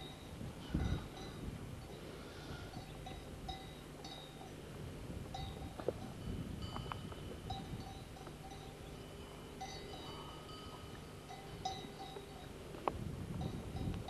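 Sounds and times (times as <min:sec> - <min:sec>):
wind rumble: 0:00.0 - 0:03.9, 0:04.6 - 0:14.0
livestock bells clanking: 0:00.0 - 0:04.7, 0:05.3 - 0:12.7, 0:13.3 - 0:14.0.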